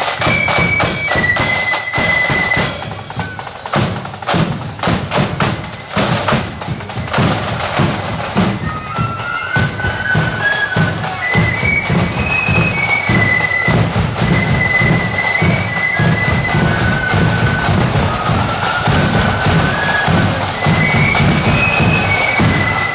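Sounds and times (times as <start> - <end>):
flutes playing high melody: 0.0 - 22.9
marching drums: 0.0 - 22.9.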